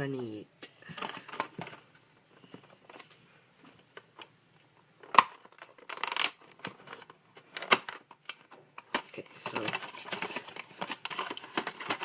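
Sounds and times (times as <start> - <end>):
packaging rustling: 0.9 - 4.2, 5.1 - 12.0.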